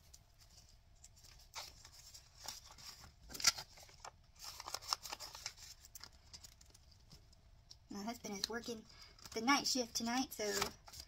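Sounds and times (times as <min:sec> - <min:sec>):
paper and plastic rustling: 0:00.0 - 0:07.3, 0:08.4 - 0:11.0.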